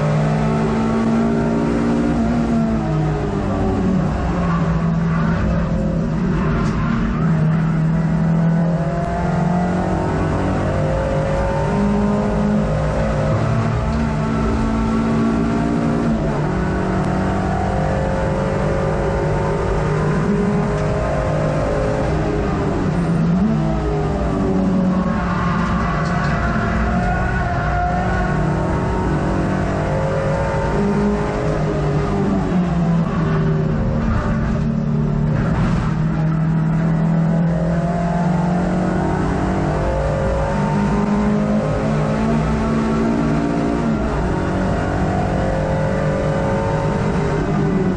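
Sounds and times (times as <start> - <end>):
car engine running hard: 0.0 - 47.9
road and wind noise: 0.0 - 47.9.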